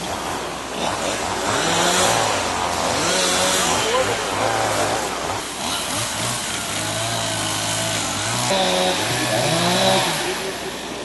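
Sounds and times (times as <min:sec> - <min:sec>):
small engine revving: 0:00.0 - 0:11.0.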